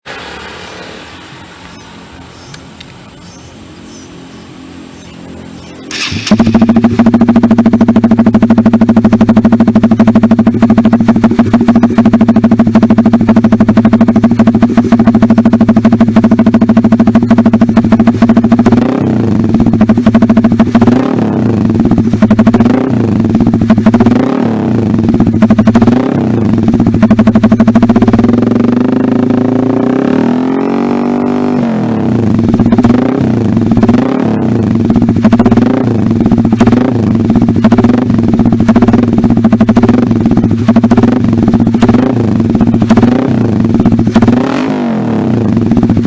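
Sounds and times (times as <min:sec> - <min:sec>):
motorcycle engine idling and revving: 0:00.0 - 0:46.0.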